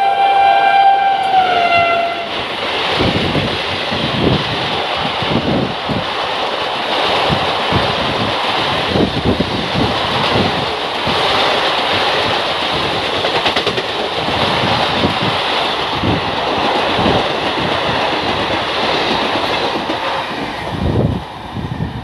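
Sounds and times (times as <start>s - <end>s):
train wheels rushing on rails: 0.0s - 22.0s.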